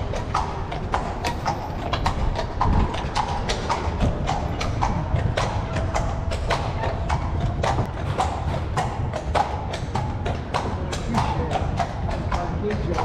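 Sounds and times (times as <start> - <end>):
carriage wheels rumbling: 0.0 - 13.0
horse hooves clip-clopping on stone: 0.0 - 13.0.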